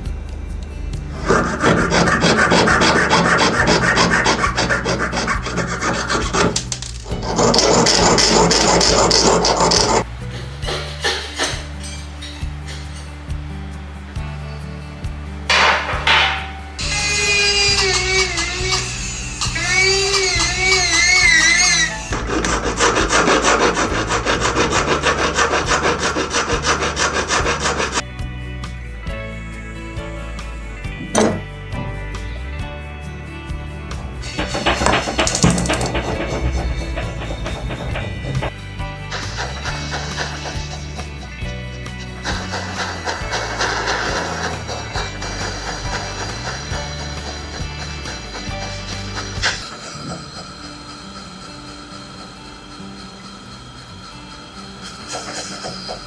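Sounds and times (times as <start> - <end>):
soft background music: 0.0 - 56.0
hand file rasping on metal: 1.0 - 13.0, 15.5 - 28.0, 33.8 - 56.0.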